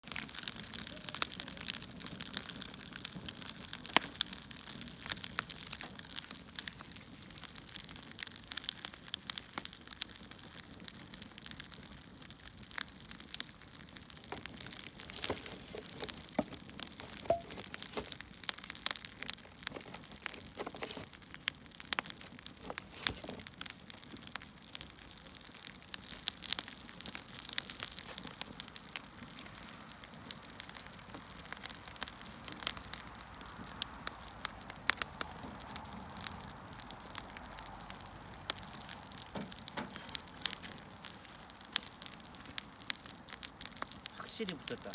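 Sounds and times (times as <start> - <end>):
burning wood crackling and popping: 0.0 - 44.9.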